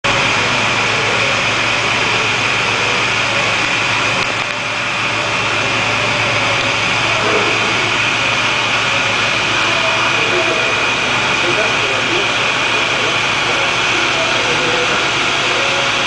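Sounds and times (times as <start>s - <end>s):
milling machine whining: 0.0s - 16.0s.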